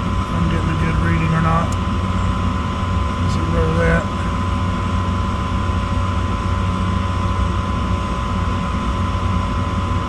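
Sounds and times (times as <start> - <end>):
draft inducer motor hum: 0.0 - 10.0
thin steady whine: 0.0 - 10.0.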